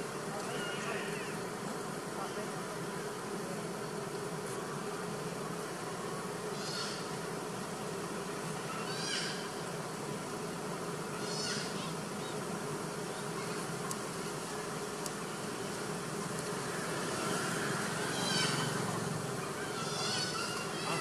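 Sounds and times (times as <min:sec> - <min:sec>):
steady buzzing background: 0:00.0 - 0:21.0.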